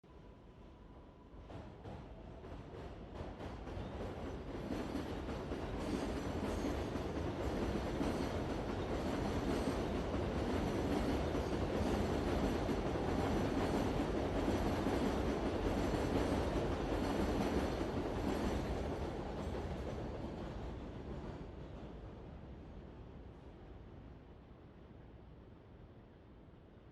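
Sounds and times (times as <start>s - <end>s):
metro train rumbling on rails: 0.1s - 26.8s.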